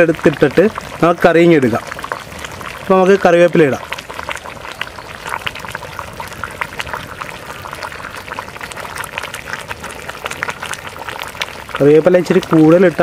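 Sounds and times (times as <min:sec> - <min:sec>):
curry bubbling in pot: 0:00.0 - 0:13.0.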